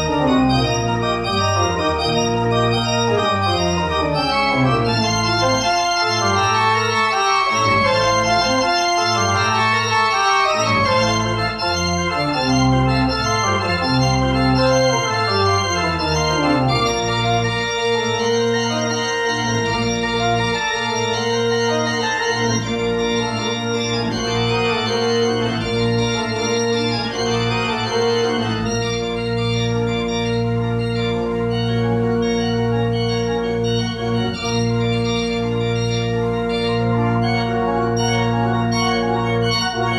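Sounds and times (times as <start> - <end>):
organ music: 0.0 - 39.9.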